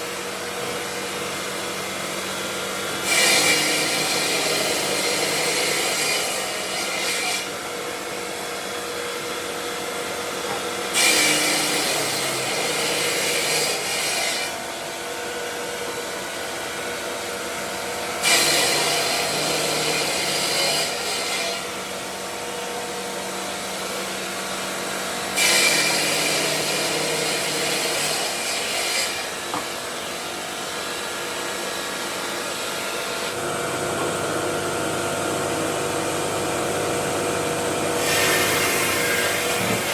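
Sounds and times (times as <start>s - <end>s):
stone grinding machine: 2.2s - 7.8s, 10.4s - 14.8s, 15.8s - 22.2s, 23.2s - 39.9s.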